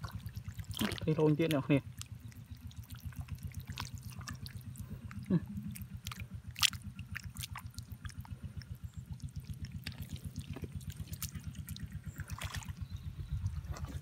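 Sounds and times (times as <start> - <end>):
muddy water splashing: 0.0 - 14.0
small engine running: 0.0 - 14.0.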